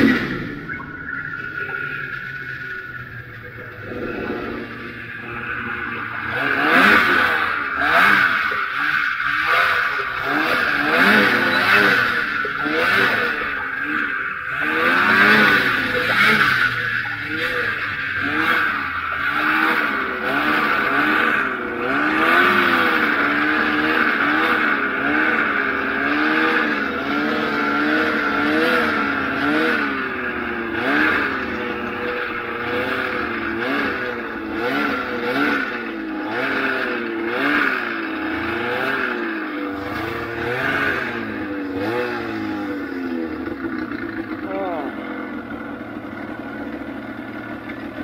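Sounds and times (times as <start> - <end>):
snowmobile engine revving: 0.0 - 48.0.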